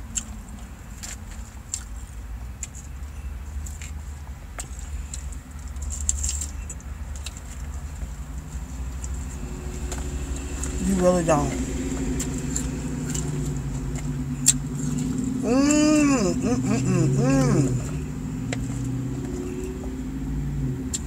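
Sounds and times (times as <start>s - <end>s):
low rumble inside a car: 0.0s - 21.0s.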